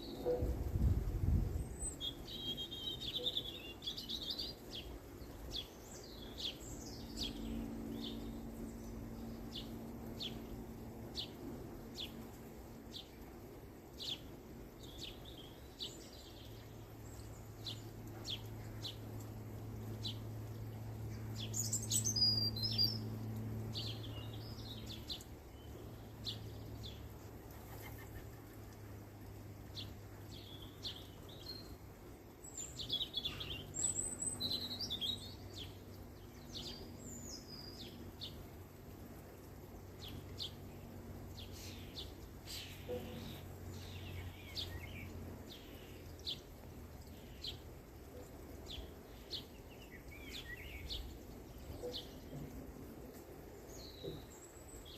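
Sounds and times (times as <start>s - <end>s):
low steady hum: 0.0s - 54.9s
songbirds chirping and singing: 0.0s - 54.9s.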